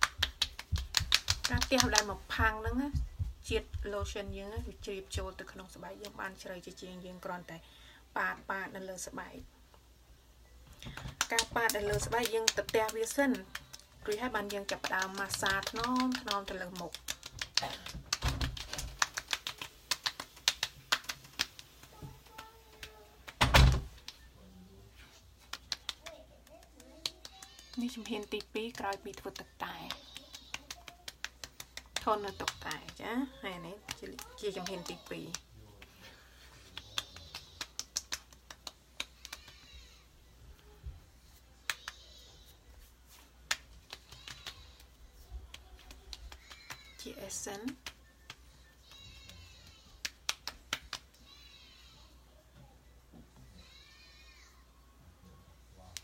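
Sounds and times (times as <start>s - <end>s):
hands patting on skin: 0.0s - 6.2s, 10.8s - 24.3s, 25.0s - 40.0s, 41.2s - 51.4s.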